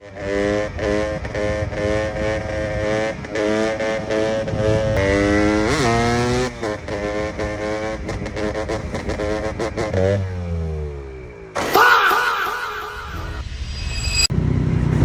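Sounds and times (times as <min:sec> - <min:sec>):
motorcycle engine revving: 0:00.0 - 0:11.7, 0:14.3 - 0:15.0.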